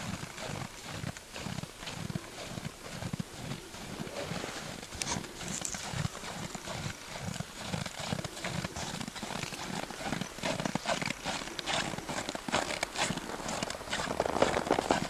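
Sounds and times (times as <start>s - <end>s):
hooves crunching through snow: 0.0s - 15.0s.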